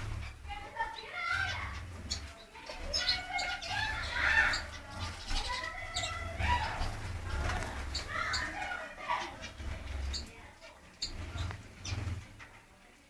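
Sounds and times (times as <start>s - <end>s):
small cage birds chirping: 0.0s - 13.0s.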